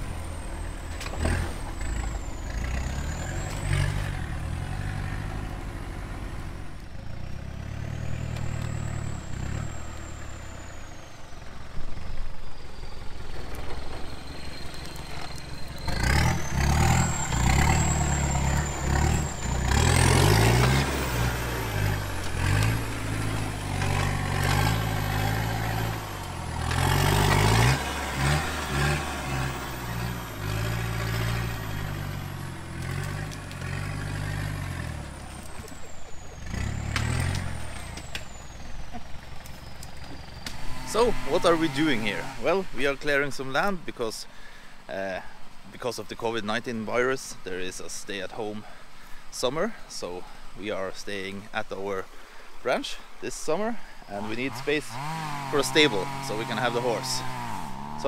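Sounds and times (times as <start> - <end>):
off-road vehicle engine revving: 0.0 - 58.0
vehicle pushing through brush: 0.0 - 58.0.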